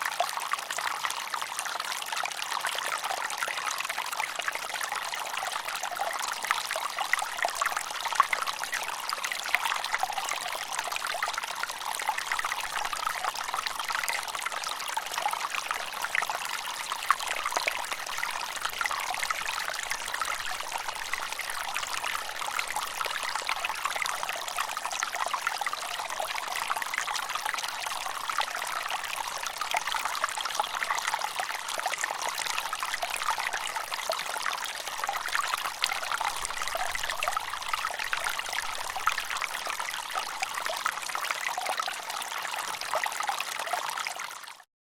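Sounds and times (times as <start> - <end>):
stream water over rocks: 0.0 - 44.7.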